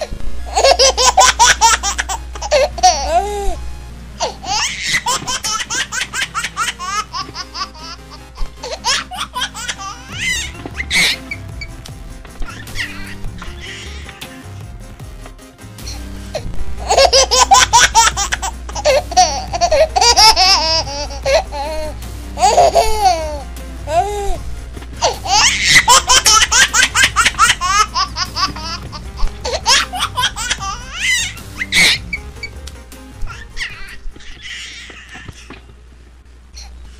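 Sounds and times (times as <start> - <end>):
baby laughing: 0.0 - 3.6, 4.2 - 11.7, 12.3 - 14.4, 15.8 - 24.4, 25.0 - 32.6, 33.2 - 35.7
background music: 0.0 - 36.9.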